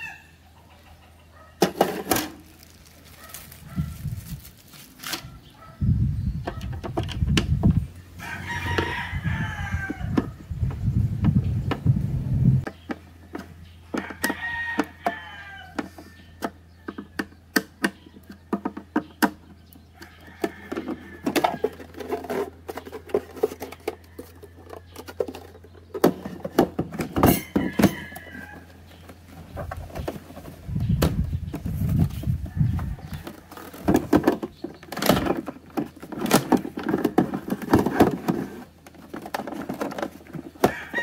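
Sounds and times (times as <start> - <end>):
chickens calling: 0.0 - 41.0.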